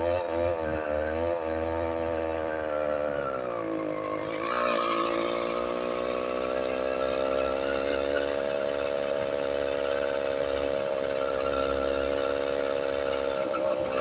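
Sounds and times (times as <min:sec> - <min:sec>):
small motorized bicycle engine: 0:00.0 - 0:14.0.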